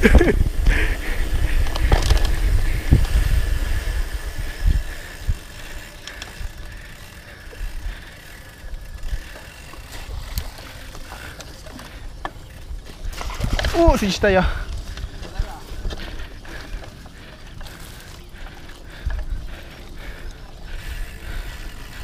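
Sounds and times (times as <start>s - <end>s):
bike frame and chain rattling: 0.0s - 22.0s
bike tyre noise: 0.0s - 22.0s
wind rumbling on microphone: 0.0s - 22.0s.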